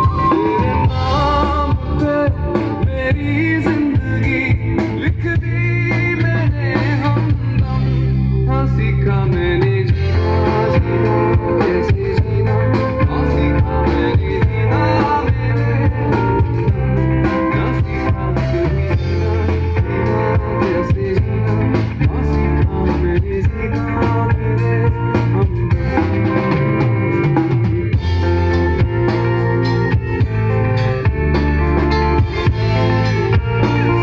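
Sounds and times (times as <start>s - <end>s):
live band playing: 0.0s - 34.0s.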